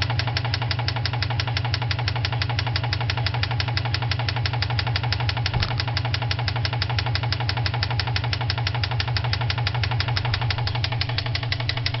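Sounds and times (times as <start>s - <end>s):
car engine idling: 0.0s - 12.0s
rapid engine knock: 0.0s - 12.0s.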